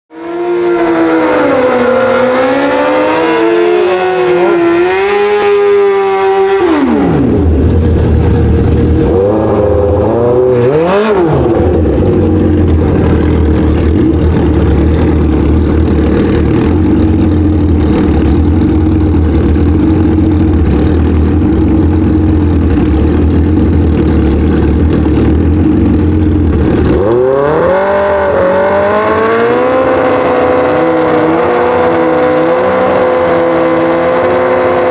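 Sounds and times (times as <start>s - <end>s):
superbike engines revving: 0.1s - 34.9s.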